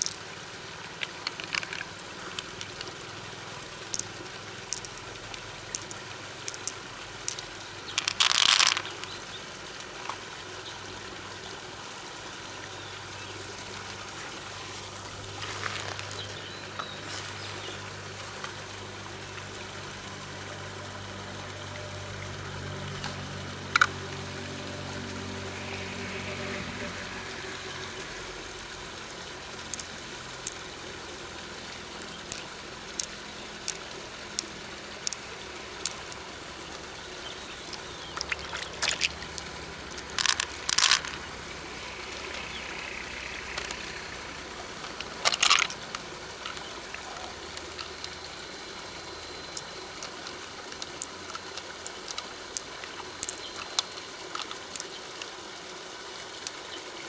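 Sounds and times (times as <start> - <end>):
crackling or scraping bursts: 0.0 - 10.3, 13.4 - 55.4
river water trickling: 0.0 - 57.0.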